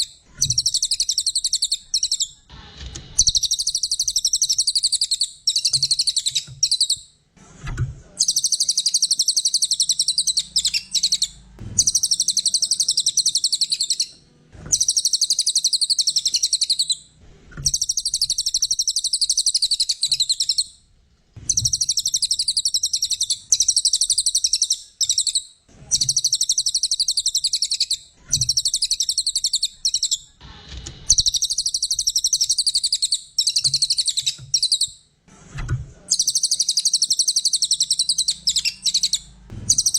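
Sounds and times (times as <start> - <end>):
bird chattering song: 0.0 - 2.5, 3.2 - 7.1, 8.2 - 20.8, 21.5 - 30.4, 31.1 - 35.0, 36.1 - 39.9.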